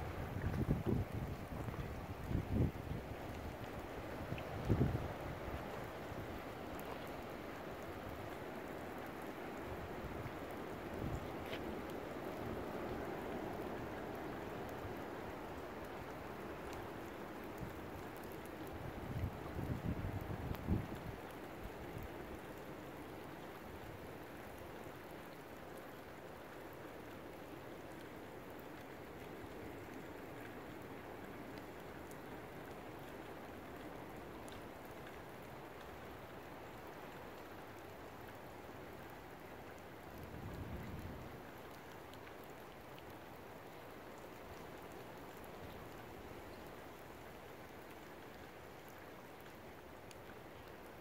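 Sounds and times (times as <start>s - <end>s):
rain: 0.0s - 51.0s
wind: 0.0s - 51.0s.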